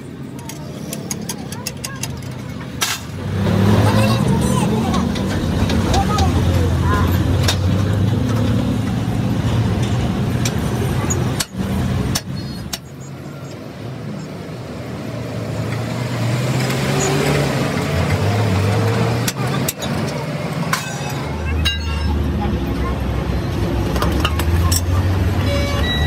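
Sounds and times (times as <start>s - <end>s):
road traffic engine noise: 0.0s - 26.0s.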